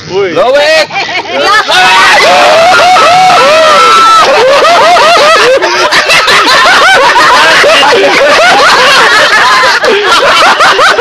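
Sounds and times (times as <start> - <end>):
people laughing and shouting: 0.0 - 11.0.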